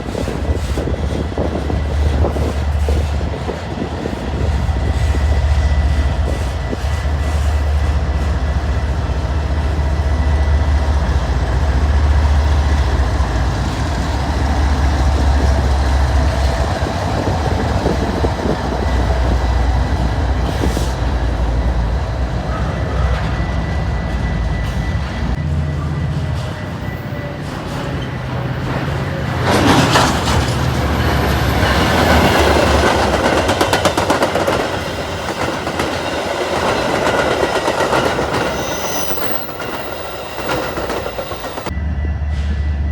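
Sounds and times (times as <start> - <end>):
diesel locomotive engine drone: 0.0 - 42.9.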